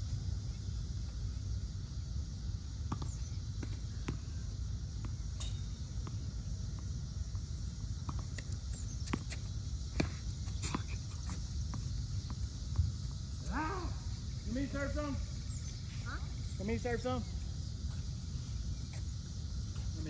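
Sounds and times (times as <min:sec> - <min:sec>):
high background hiss: 0:00.0 - 0:20.0.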